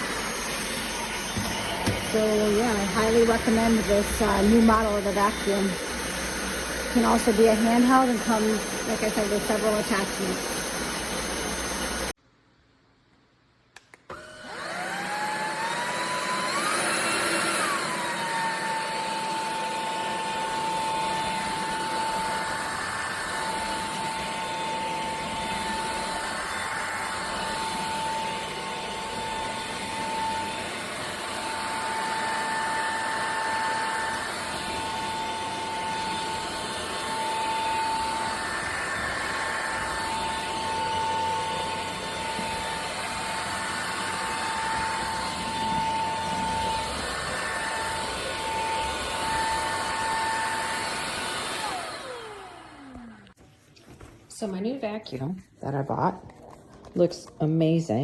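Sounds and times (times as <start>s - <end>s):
stick vacuum motor whine: 0.0s - 12.1s, 14.1s - 53.4s.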